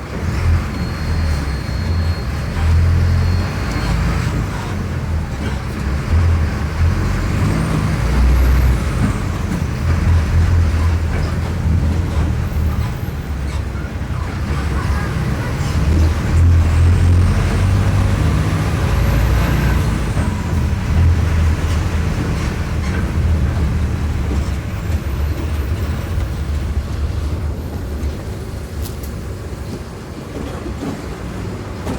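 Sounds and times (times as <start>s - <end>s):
bus diesel engine droning: 0.0s - 31.9s.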